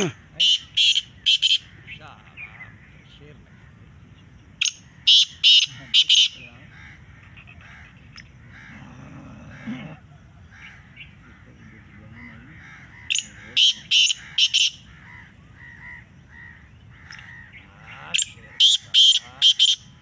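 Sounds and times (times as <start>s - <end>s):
birdsong: 0.0s - 20.0s.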